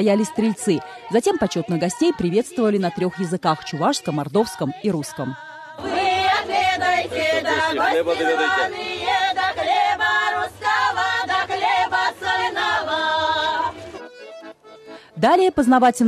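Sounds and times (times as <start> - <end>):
women's choir singing: 0.0 - 14.0.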